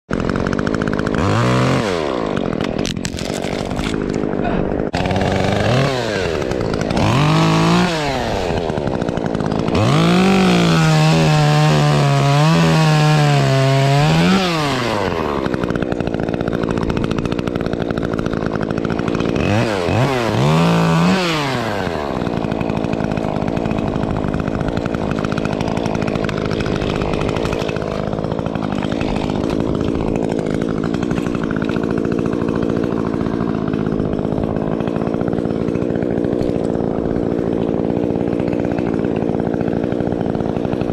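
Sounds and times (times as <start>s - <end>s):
chainsaw revving: 0.1s - 40.9s.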